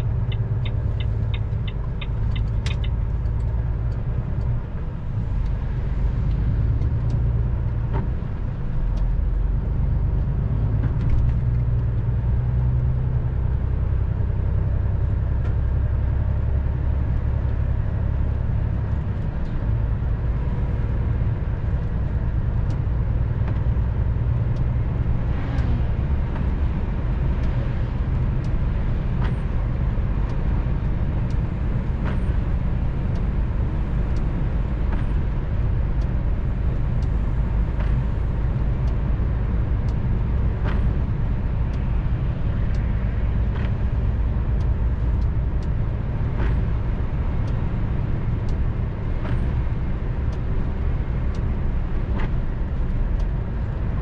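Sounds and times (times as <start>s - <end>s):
engine drone and road noise: 0.0s - 54.0s.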